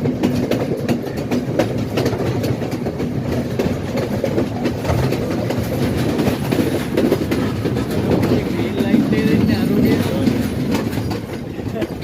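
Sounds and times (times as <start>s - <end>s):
train rumbling on rails: 0.0s - 12.0s
wheels clicking over rail joints: 0.0s - 12.0s.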